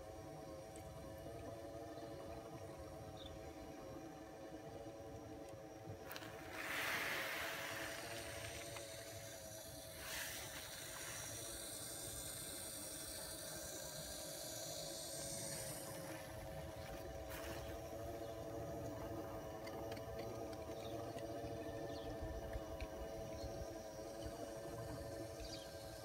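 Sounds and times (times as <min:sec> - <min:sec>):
model chairlift humming: 0:00.0 - 0:26.0.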